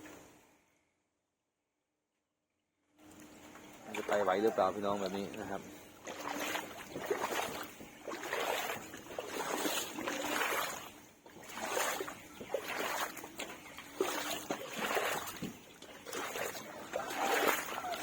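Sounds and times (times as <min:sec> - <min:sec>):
person wading through water: 0:03.0 - 0:18.0.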